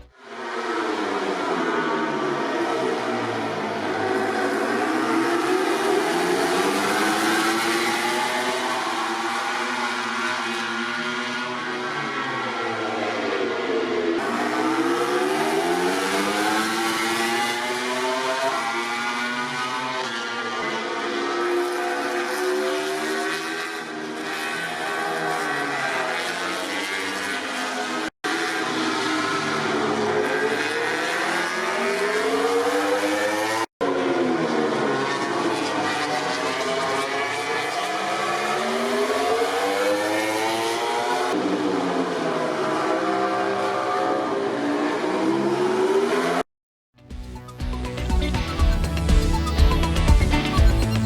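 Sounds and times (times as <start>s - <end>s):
race bike engines: 0.0s - 46.4s.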